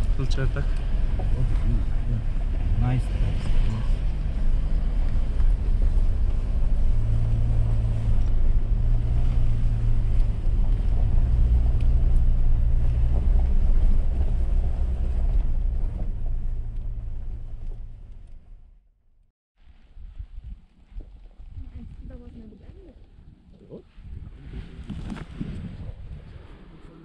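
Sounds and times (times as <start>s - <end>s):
engine and tyre rumble: 0.0s - 19.0s, 19.6s - 27.0s.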